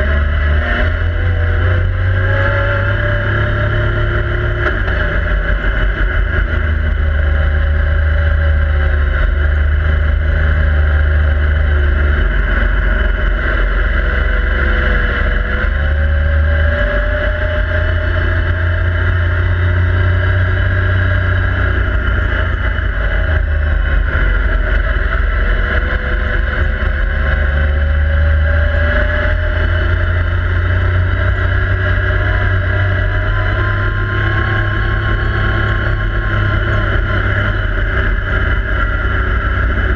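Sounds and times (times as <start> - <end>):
engine revving hard: 0.0 - 39.9
heavy low rumble: 0.0 - 39.9.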